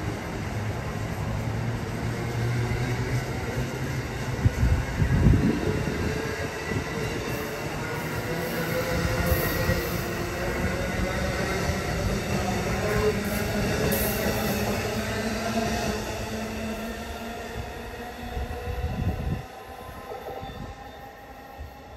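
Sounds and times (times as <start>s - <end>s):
train wheels rumbling on rail: 0.0s - 20.8s.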